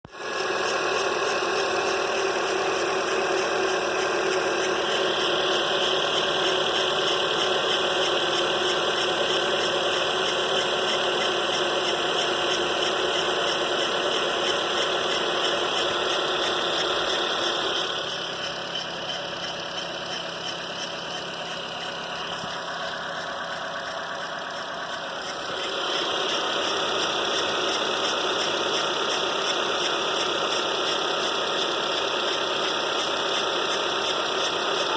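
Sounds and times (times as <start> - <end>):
car engine running: 0.1 - 34.9.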